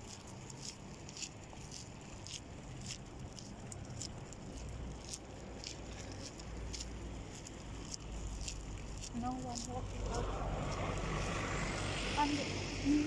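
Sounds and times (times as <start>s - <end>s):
footsteps walking: 0.0s - 11.8s
low traffic rumble: 0.0s - 13.0s
wind: 0.0s - 13.0s.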